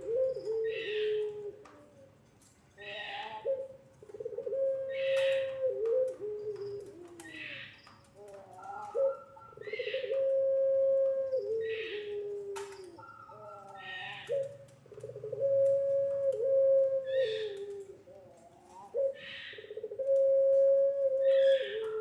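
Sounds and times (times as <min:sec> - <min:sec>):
dove cooing: 0:00.0 - 0:02.2, 0:02.8 - 0:22.0.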